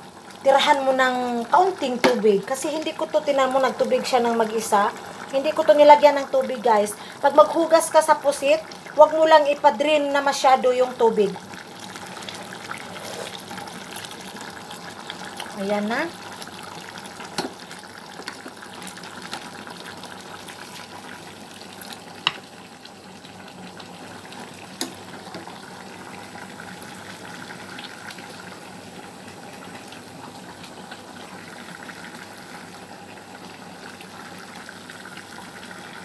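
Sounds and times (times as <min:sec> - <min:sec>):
sauce simmering in a pan: 0:00.0 - 0:36.0.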